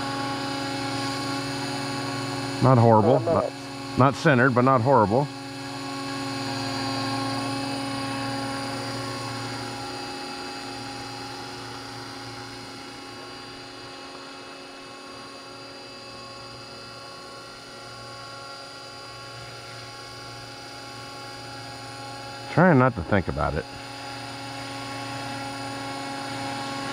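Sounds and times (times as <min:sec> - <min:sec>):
rc helicopter rotor whine: 0:00.0 - 0:26.9.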